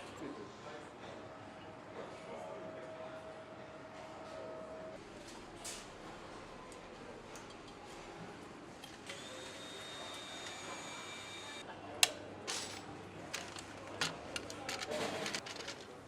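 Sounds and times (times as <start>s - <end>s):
machinery background hum: 0.0s - 16.0s.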